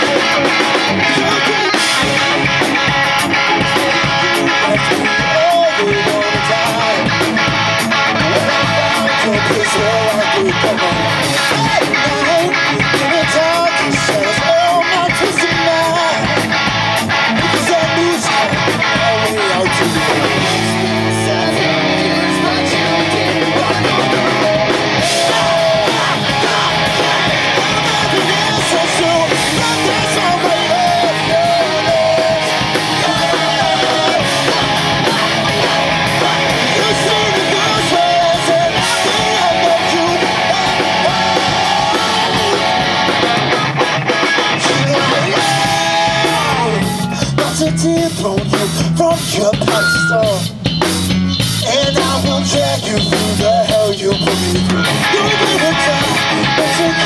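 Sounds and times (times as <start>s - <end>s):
person singing lead vocal: 0.0s - 50.7s, 51.4s - 57.0s
live rock band playing: 0.0s - 57.0s.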